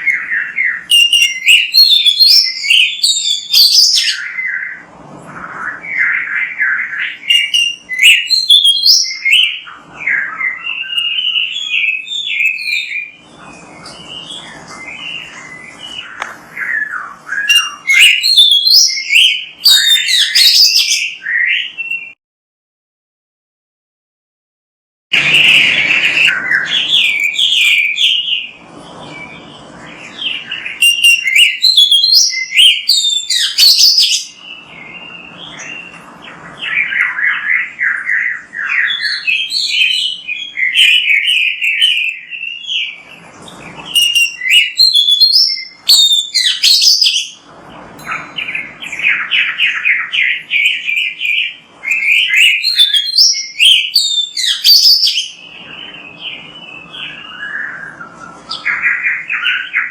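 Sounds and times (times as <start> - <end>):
bird singing chirps and whistles: 0.0 - 22.2, 25.2 - 59.9.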